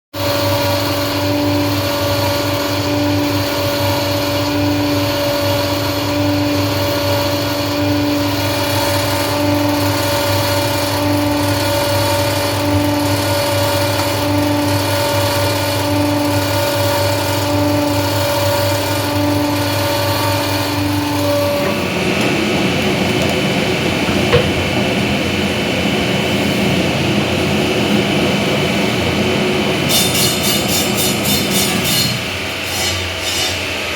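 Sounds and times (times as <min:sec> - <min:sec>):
machine humming with pulsing tone: 0:00.2 - 0:32.9
rough hissy machine running: 0:00.2 - 0:33.9.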